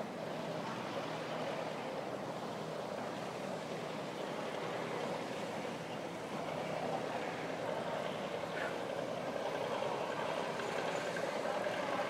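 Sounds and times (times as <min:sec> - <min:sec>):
low hum of boat engines: 0:00.0 - 0:12.0.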